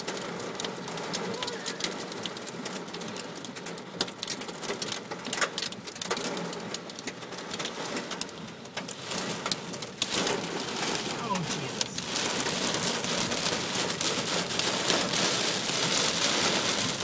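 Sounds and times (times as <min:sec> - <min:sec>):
rain and hail pelting car roof: 0:00.0 - 0:17.0.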